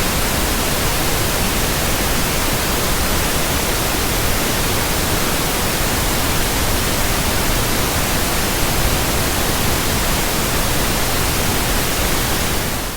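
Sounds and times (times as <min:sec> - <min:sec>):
white noise hiss: 0:00.0 - 0:12.9.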